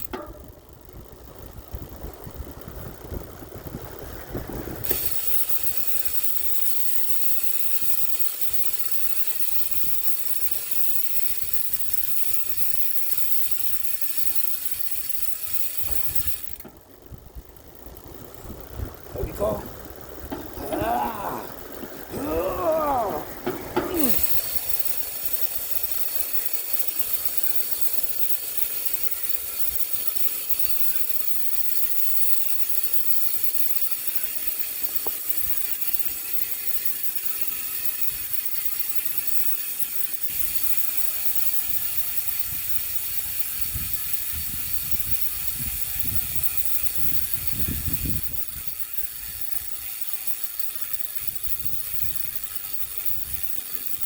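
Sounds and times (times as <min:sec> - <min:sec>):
bicycle hub freewheel ticking: 0:00.0 - 0:54.0.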